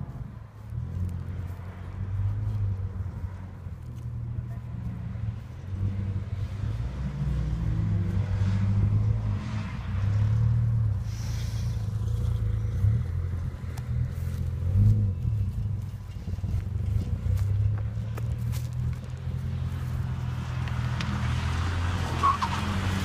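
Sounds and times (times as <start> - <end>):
distant car engine accelerating: 0.0 - 23.0
wind rumble on microphone: 0.0 - 23.0.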